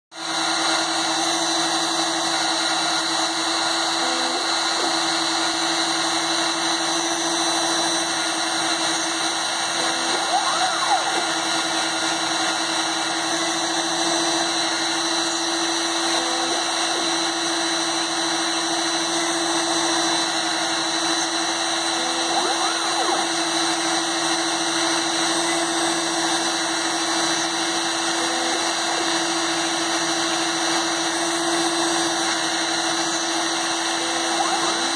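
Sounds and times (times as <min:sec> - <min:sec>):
drill bit drilling circuit board: 0:00.2 - 0:34.9
rotary tool motor whine: 0:00.2 - 0:34.9.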